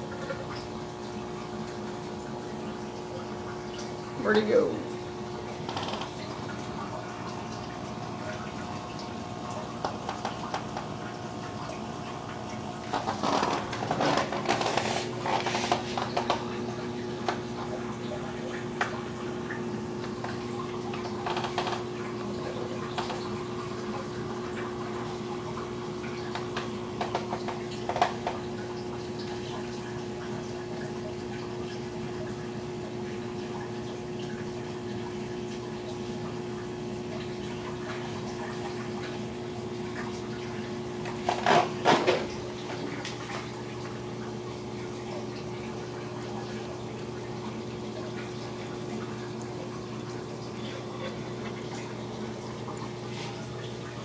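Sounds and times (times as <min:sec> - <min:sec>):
aquarium pump humming: 0:00.0 - 0:54.0
water trickling and bubbling: 0:00.0 - 0:54.0.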